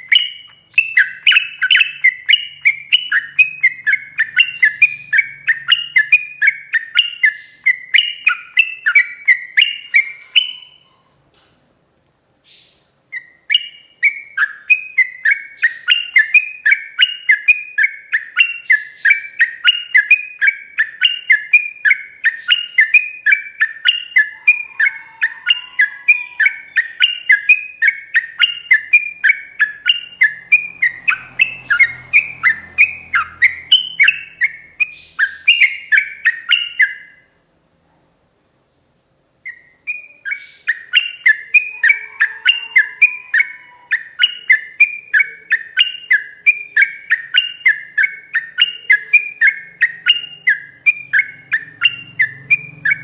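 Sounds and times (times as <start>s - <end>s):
bird singing chirping notes: 0.0s - 11.0s, 12.5s - 37.4s, 39.4s - 53.0s.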